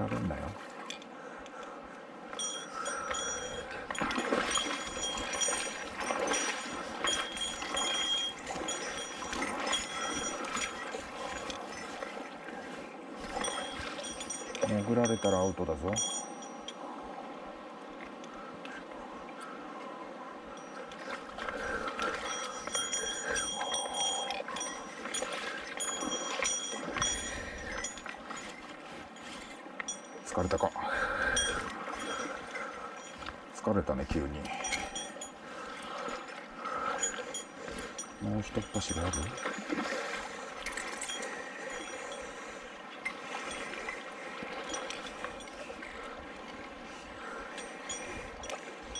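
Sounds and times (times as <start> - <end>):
river water splashing: 0.0 - 48.9.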